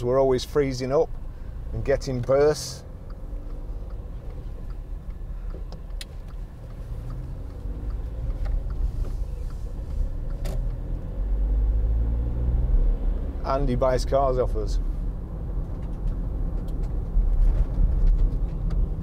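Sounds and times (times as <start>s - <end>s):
road rumble: 0.0s - 19.0s
car engine pulling: 0.1s - 19.0s.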